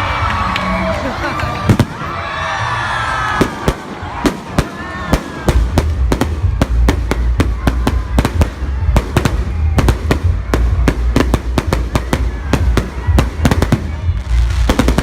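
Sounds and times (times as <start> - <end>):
fireworks bangs: 1.6 - 2.3, 3.3 - 15.0.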